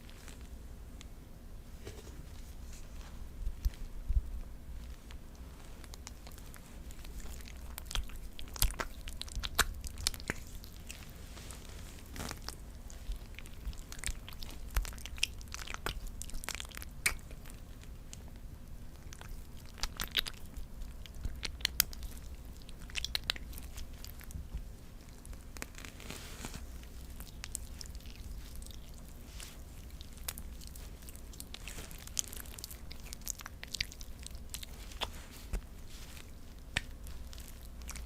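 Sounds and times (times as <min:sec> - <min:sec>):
low steady hum: 0:00.0 - 0:38.0
person chewing and crunching: 0:05.8 - 0:38.0.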